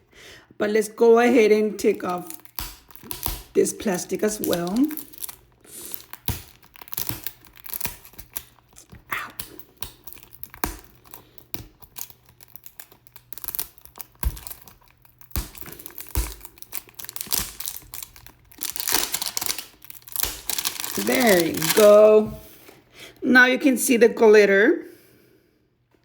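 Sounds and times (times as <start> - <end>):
plastic wrapping tearing and crinkling: 1.8 - 22.8.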